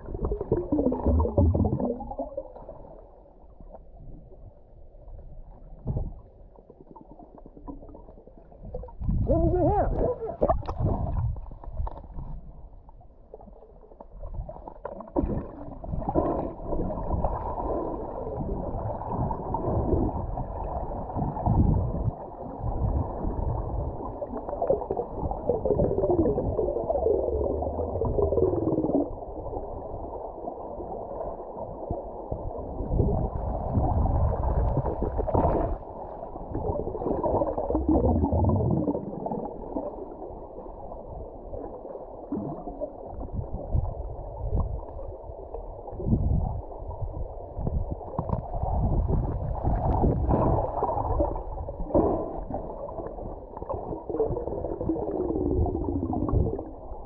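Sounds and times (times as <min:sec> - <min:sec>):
gurgling bubbles: 0:00.0 - 0:03.1, 0:05.8 - 0:12.3, 0:13.3 - 0:31.2, 0:31.8 - 0:57.0
muffled underwater river rumble: 0:00.0 - 0:57.0.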